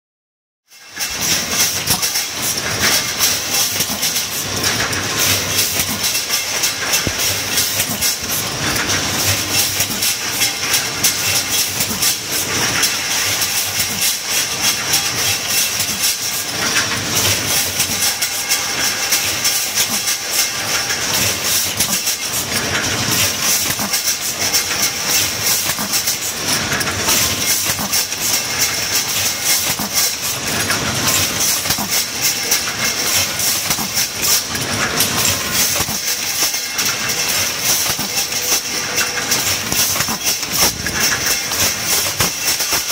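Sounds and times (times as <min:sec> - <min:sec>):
clatter of metal tubes: 0:00.7 - 0:42.9.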